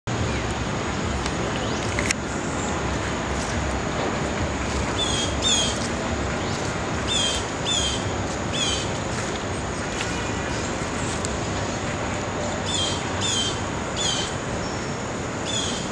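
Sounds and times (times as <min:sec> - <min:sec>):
low rumble: 0:00.1 - 0:13.9
outdoor background hiss: 0:00.1 - 0:15.9.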